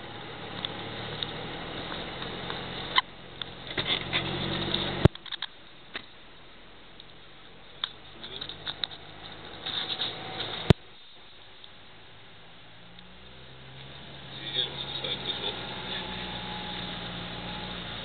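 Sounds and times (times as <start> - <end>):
creaks: 0.0 - 6.2, 7.8 - 11.8, 12.9 - 18.0
car engine hum: 0.0 - 18.0.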